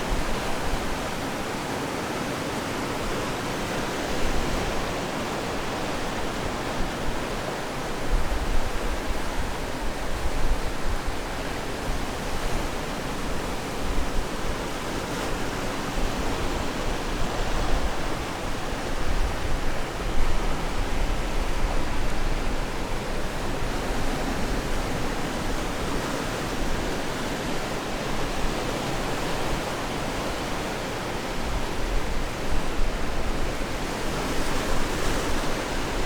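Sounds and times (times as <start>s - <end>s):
ocean surf washing on shore: 0.0s - 36.0s.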